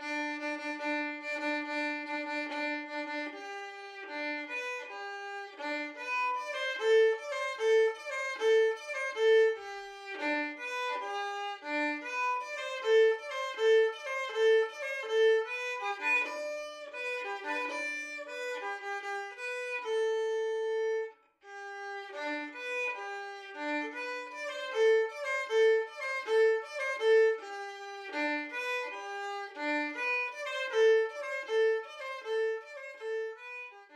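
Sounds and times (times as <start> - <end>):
lively violin music: 0.0 - 33.9.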